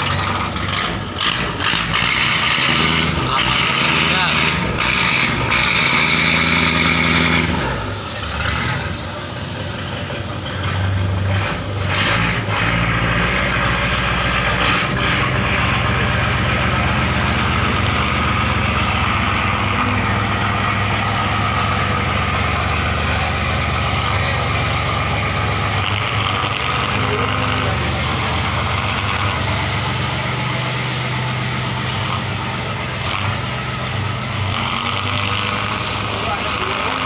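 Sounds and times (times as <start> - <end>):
boat diesel engine running: 0.0 - 37.0.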